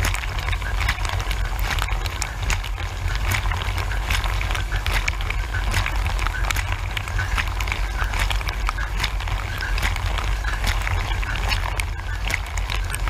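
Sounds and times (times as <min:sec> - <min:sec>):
wash pump hum: 0:00.0 - 0:13.0
water jets spattering: 0:00.0 - 0:13.0.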